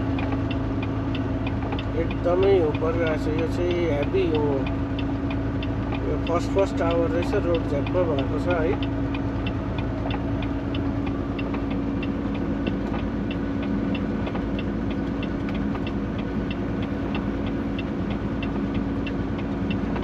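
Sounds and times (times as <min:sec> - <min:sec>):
fast light ticking: 0:00.0 - 0:20.0
road noise: 0:00.0 - 0:20.0
truck engine drone: 0:00.0 - 0:20.0.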